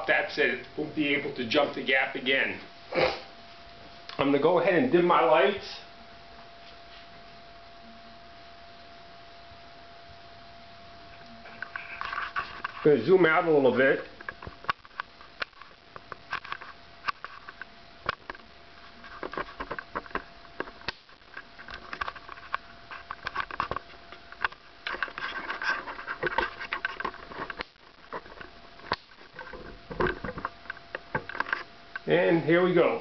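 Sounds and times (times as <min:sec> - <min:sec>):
faint steady tone: 0:00.0 - 0:33.0.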